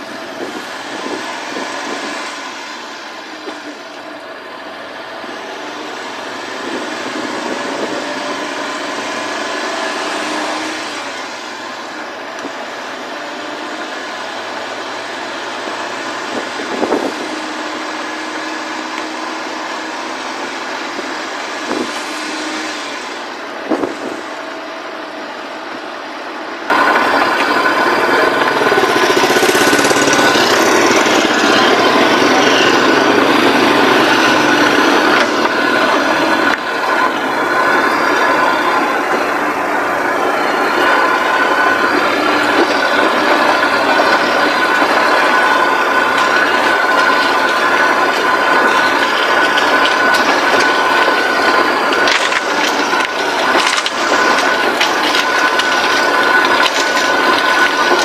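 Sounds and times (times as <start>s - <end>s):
truck engine and tyre noise: 0.0s - 58.0s
tyres on gravel: 0.0s - 58.0s.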